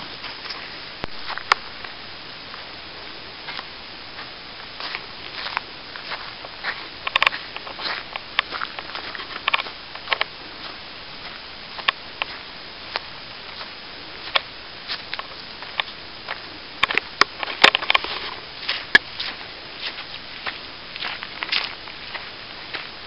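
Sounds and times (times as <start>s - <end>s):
footsteps crunching on leaves and twigs: 0.0s - 23.0s
steady hiss: 0.0s - 23.0s.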